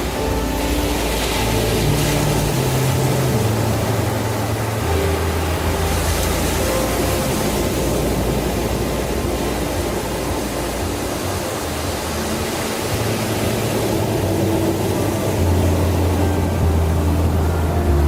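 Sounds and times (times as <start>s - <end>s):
low even hum: 0.0s - 18.0s
steady rushing noise: 0.0s - 18.0s.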